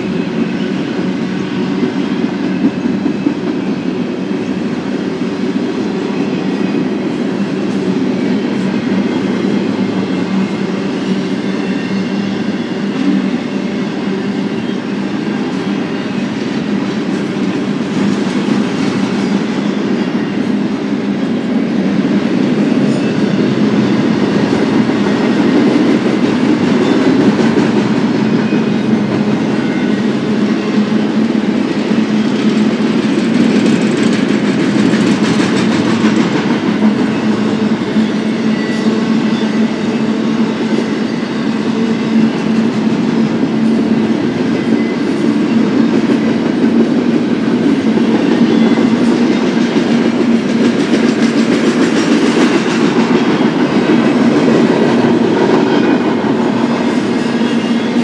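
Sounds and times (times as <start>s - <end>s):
steel wheels on rails: 0.0s - 58.0s.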